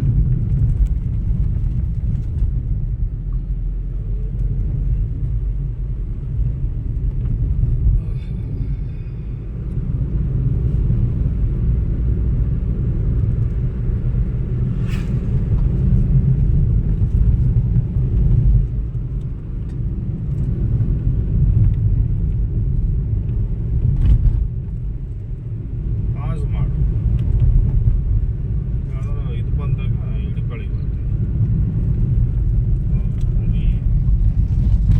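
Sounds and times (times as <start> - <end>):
car driving rumble: 0.0 - 34.9.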